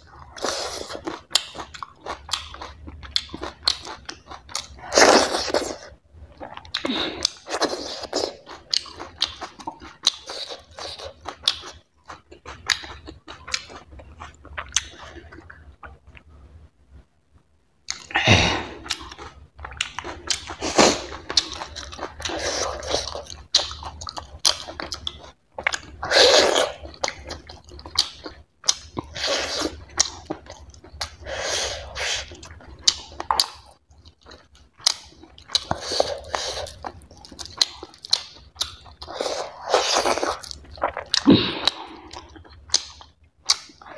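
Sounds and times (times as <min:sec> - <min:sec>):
chewing and lip smacking: 0:00.1 - 0:16.4, 0:18.8 - 0:31.2, 0:31.8 - 0:43.9.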